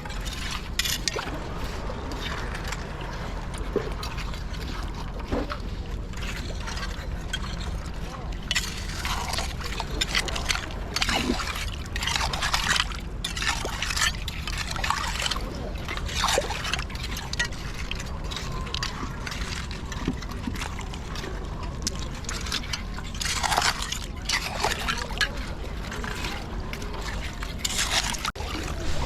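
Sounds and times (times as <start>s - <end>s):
mud and water sloshing: 0.0s - 29.0s
steady low rumble: 0.0s - 29.0s.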